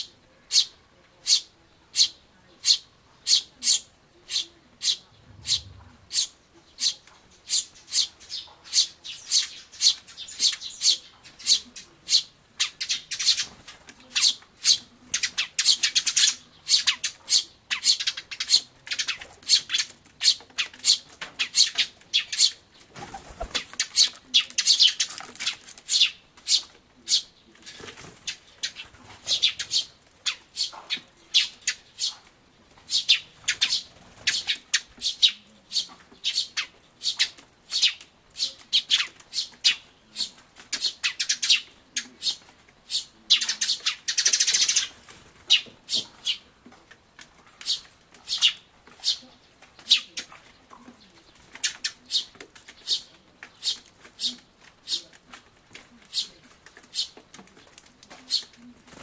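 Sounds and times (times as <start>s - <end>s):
sparrows chirping: 0.0s - 46.5s, 47.5s - 55.2s, 55.8s - 58.8s.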